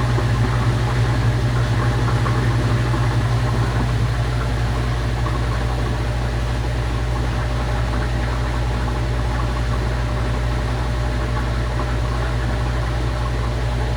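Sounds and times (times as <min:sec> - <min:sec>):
washing machine running: 0:00.0 - 0:13.9.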